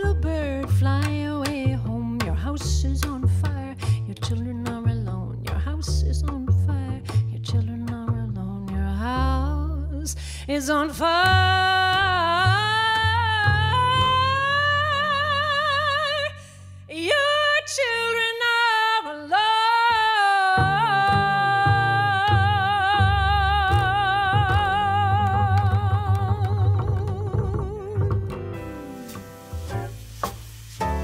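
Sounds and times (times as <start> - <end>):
piano: 0.0 - 16.3, 19.8 - 31.0
upright bass: 0.0 - 16.9, 20.6 - 31.0
woman singing jazz: 0.0 - 29.8.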